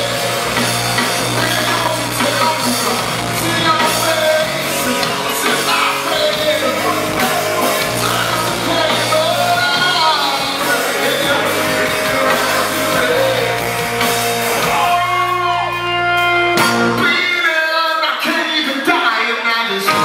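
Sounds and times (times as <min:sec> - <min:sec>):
electric guitar: 0:00.0 - 0:20.0
live rock band playing: 0:00.0 - 0:20.0
person singing: 0:00.0 - 0:20.0.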